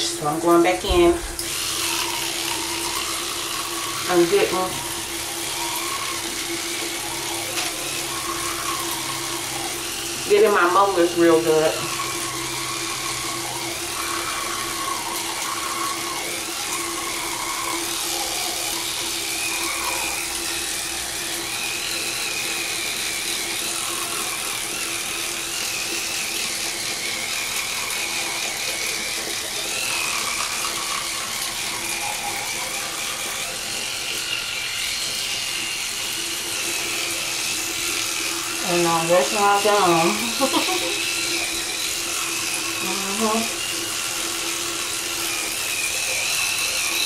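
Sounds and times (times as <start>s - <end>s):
electric toothbrush humming: 0.0s - 47.0s.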